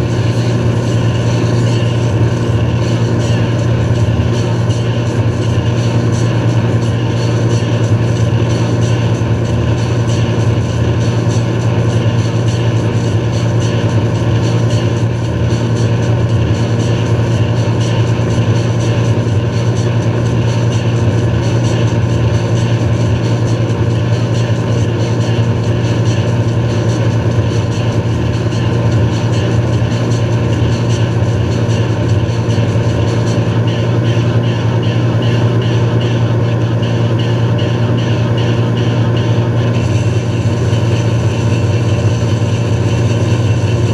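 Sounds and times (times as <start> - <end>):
boat engine droning: 0.0 - 43.9
churning wake water: 0.0 - 43.9.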